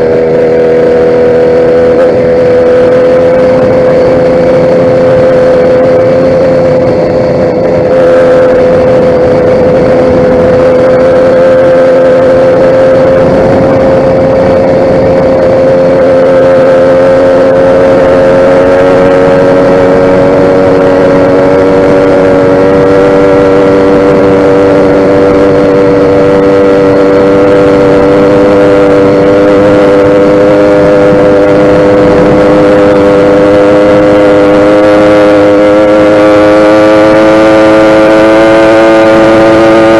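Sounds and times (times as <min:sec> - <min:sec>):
two-stroke engine running at high speed: 0:00.0 - 0:39.9.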